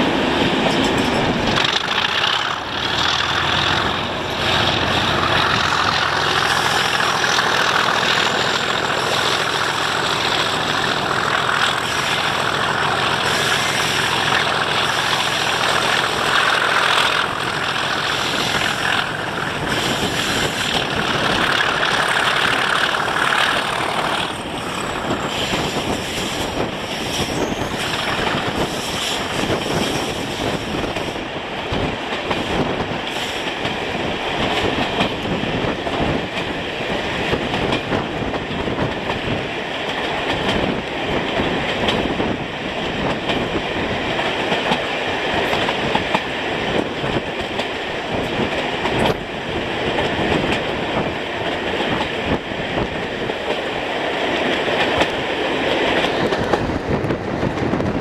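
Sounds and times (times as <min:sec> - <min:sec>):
diesel locomotive engine running: 0:00.0 - 0:58.0
train wheels rushing on rails: 0:00.0 - 0:58.0.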